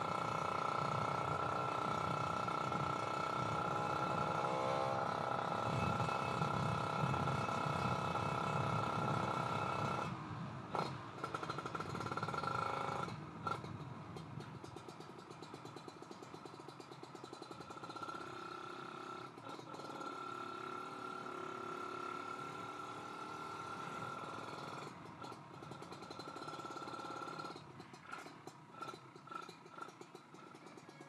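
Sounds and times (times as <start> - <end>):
two-stroke motorcycle engine running: 0.0 - 31.0.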